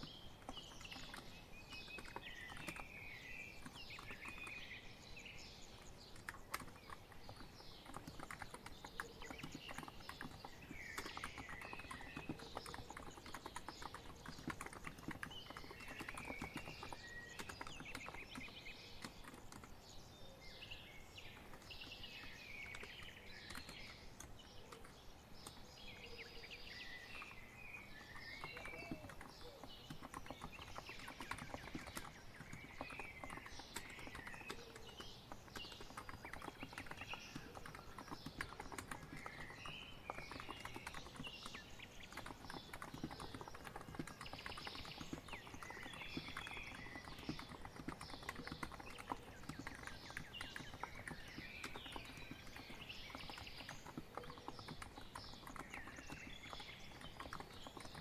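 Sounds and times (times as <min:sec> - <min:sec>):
birds chirping and singing: 0:00.0 - 0:58.0
soft keyboard typing: 0:00.0 - 0:58.0.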